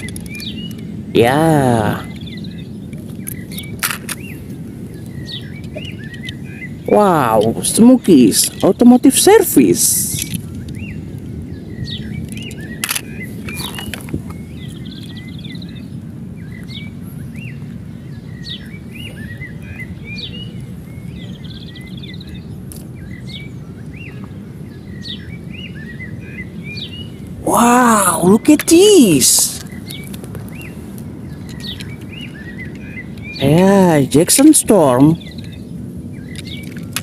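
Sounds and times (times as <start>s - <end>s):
low outdoor rumble: 0.0s - 25.7s, 26.4s - 37.0s
small birds chirping: 0.0s - 37.0s.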